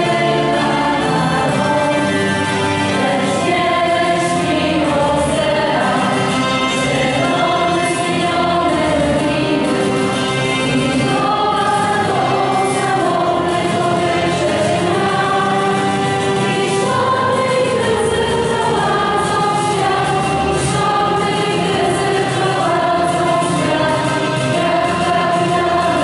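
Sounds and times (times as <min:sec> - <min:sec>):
group singing slow song: 0:00.0 - 0:26.0.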